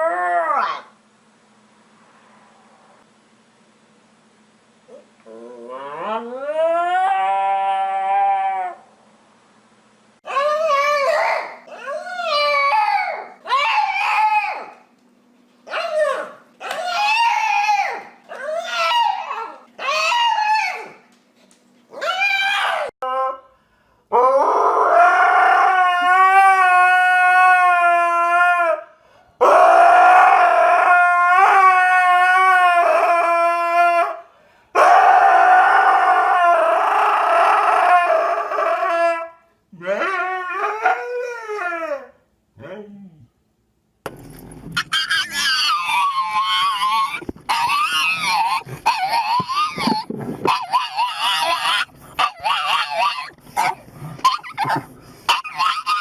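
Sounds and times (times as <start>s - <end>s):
dog howling: 0.0s - 0.9s, 5.3s - 8.9s, 10.3s - 14.8s, 15.7s - 21.0s, 21.9s - 23.4s, 24.1s - 34.2s, 34.8s - 43.3s, 44.8s - 56.0s.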